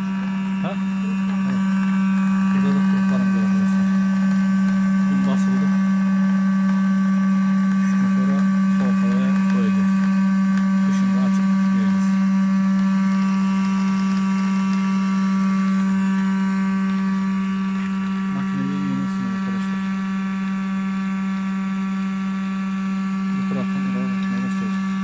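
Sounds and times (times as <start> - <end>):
electric cream separator motor hum: 0.0 - 25.0.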